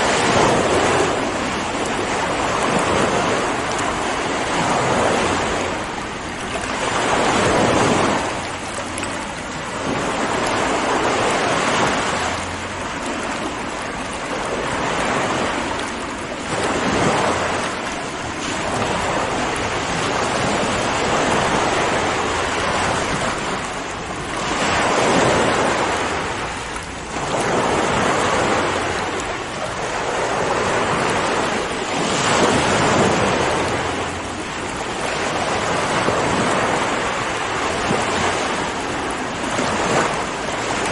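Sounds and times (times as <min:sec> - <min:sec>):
sea waves breaking: 0:00.0 - 0:40.9.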